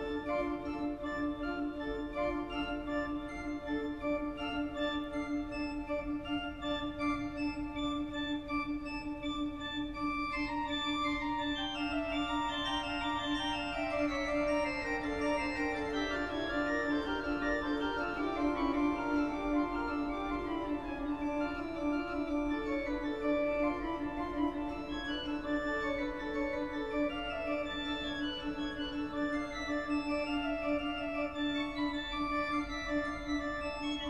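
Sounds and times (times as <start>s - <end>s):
organ music: 0.0s - 34.0s.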